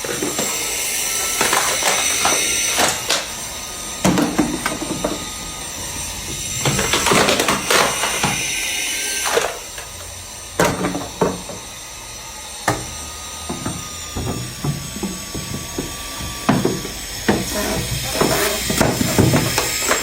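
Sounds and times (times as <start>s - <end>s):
hard objects knocking and clicking: 0.0s - 5.4s, 6.2s - 8.6s, 9.2s - 11.7s, 12.6s - 20.0s.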